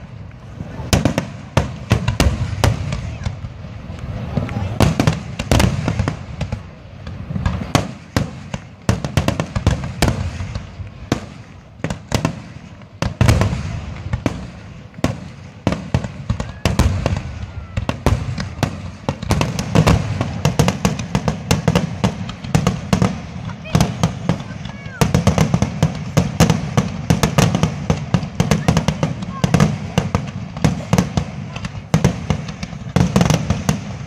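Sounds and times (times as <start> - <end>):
firework shells bursting: 0.0 - 34.0.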